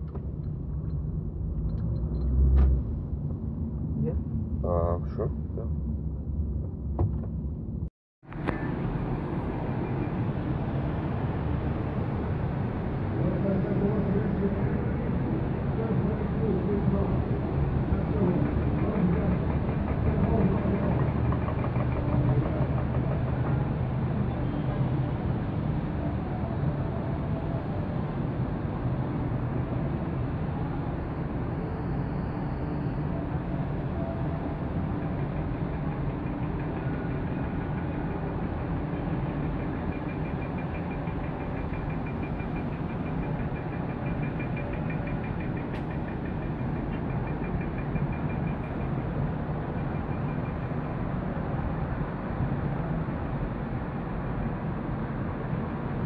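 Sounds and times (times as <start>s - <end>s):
vehicle low rumble: 0.0s - 56.0s.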